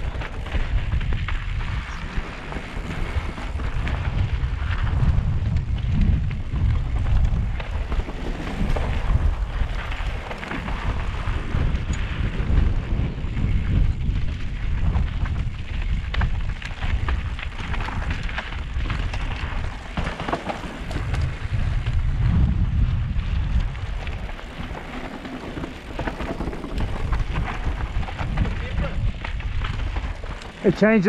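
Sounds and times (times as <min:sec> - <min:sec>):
bike clicks and rattles: 0:00.0 - 0:31.0
wind buffeting microphone: 0:00.0 - 0:31.0.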